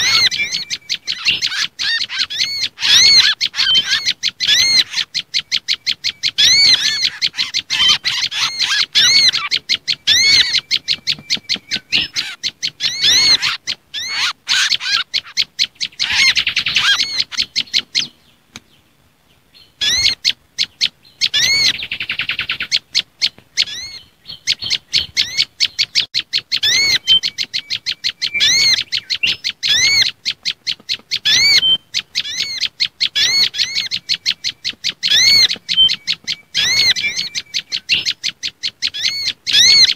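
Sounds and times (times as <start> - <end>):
birds chirping rapidly: 0.0 - 39.9.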